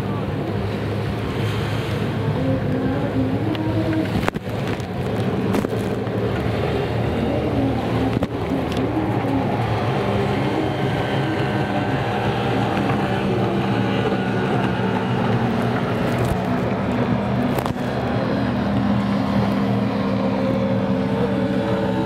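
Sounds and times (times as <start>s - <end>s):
jet ski engines droning: 0.0s - 22.0s.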